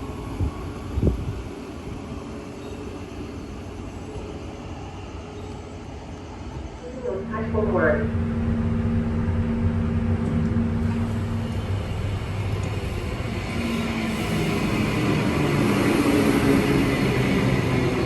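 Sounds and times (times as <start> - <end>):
electric train hum: 0.0 - 18.0
rail noise: 0.0 - 18.0.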